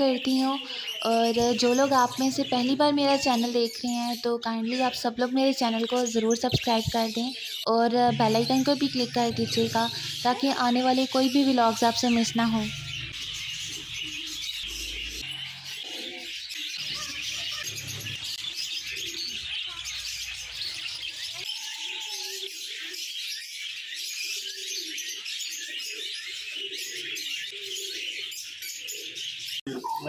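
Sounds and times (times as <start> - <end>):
caged birds chirping: 0.0 - 30.0
lower repeated bird calls: 0.0 - 30.0.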